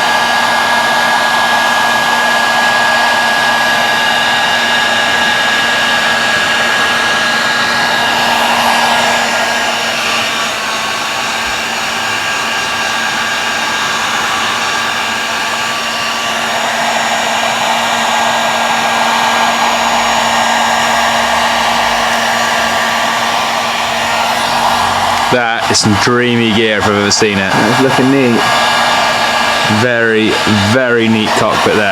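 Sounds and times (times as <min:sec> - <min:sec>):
heat gun fan whining: 0:00.0 - 0:31.9.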